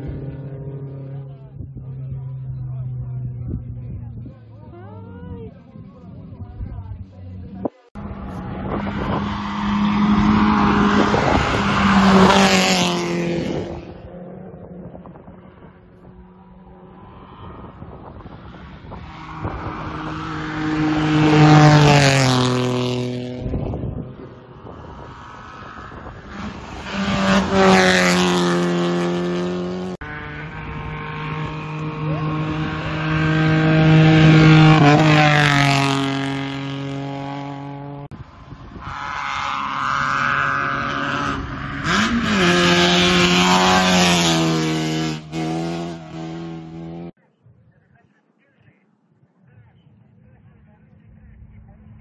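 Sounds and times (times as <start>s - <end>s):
rally cars passing at full throttle: 0.0s - 47.2s.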